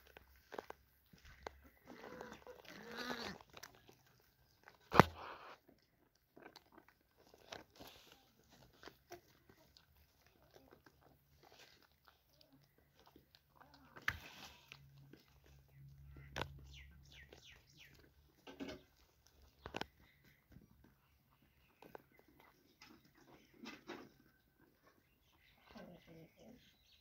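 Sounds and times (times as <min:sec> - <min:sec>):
lambs crunching and chewing: 0:00.0 - 0:27.0.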